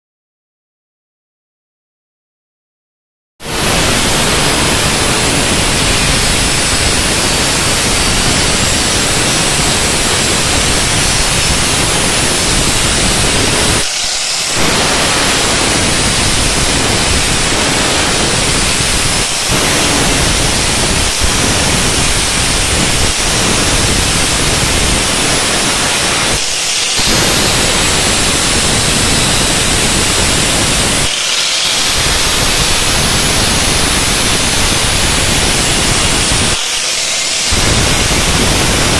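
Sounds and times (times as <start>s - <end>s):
angle grinder grinding metal: 3.5s - 38.9s.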